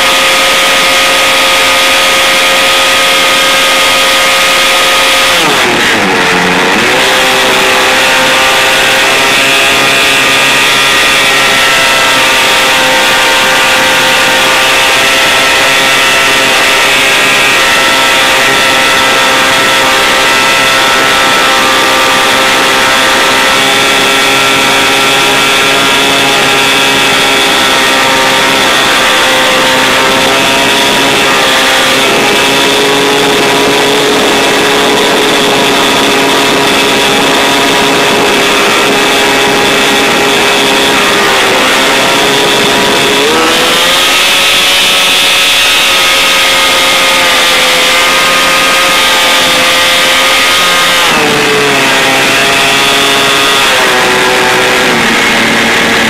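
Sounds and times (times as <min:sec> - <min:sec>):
airplane engine droning: 0:00.0 - 0:56.0
wind rush over microphone: 0:00.0 - 0:56.0.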